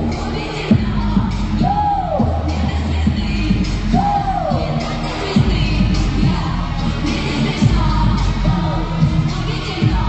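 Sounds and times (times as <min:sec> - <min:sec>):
loud pop music with beat: 0:00.0 - 0:10.0
person singing: 0:00.0 - 0:10.0.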